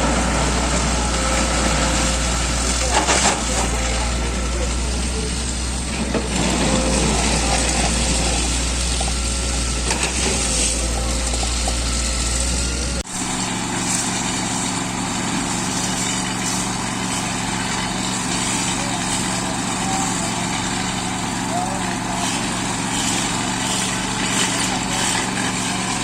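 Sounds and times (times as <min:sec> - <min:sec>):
engines running: 0:00.0 - 0:26.0
low engine drone: 0:00.0 - 0:26.0.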